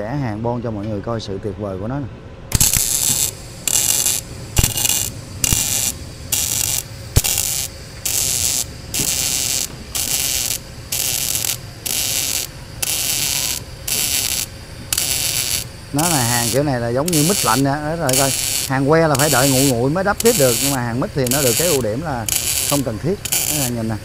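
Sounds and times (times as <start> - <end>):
sharp snap of arc striking: 2.5 - 15.7, 16.4 - 23.8
welding arc crackling: 2.5 - 24.0.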